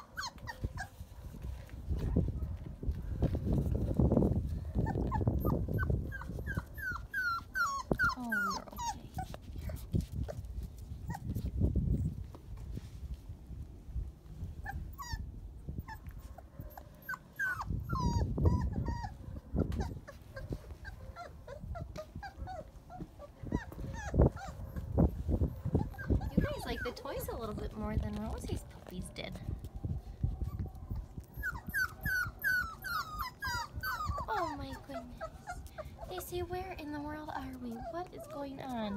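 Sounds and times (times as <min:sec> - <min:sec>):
puppies whining: 0:00.0 - 0:01.4, 0:04.6 - 0:12.1, 0:14.6 - 0:29.1, 0:30.4 - 0:38.9.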